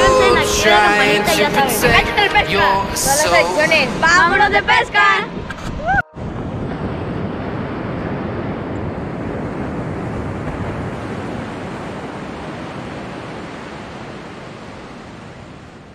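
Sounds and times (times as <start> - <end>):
ocean surf breaking on beach: 2.6 - 15.9.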